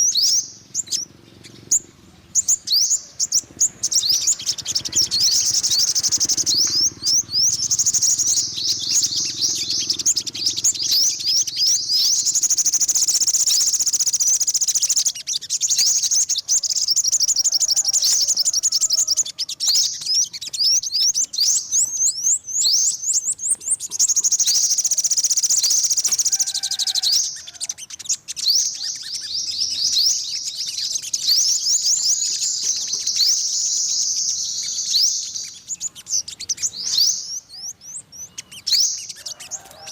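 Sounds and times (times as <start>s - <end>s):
sunbird twittering chirps: 0.0s - 39.9s.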